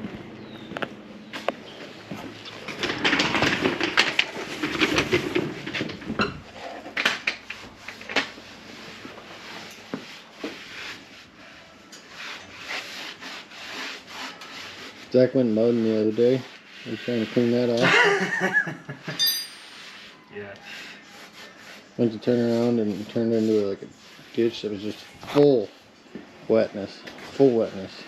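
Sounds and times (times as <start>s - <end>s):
rubbing and scraping strokes: 3.6s - 18.3s, 19.2s - 28.0s.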